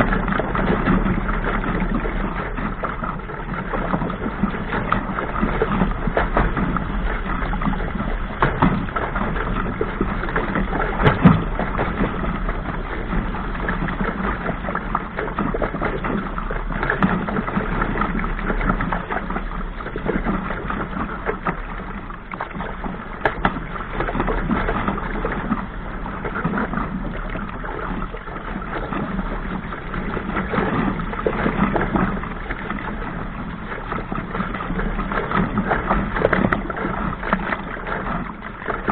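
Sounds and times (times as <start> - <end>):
hull knocking against waves: 0.0 - 38.9
steady low rumble: 0.0 - 38.9
water rushing along a hull: 0.0 - 38.9.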